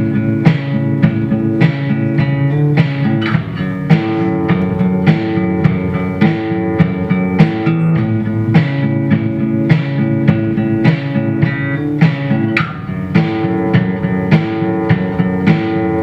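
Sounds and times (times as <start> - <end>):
guitar playing: 0.0 - 16.0.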